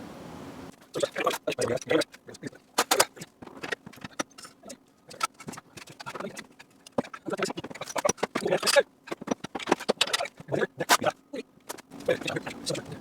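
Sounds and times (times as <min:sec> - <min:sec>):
car parts and tools clicking: 0:00.8 - 0:11.0, 0:11.6 - 0:13.0.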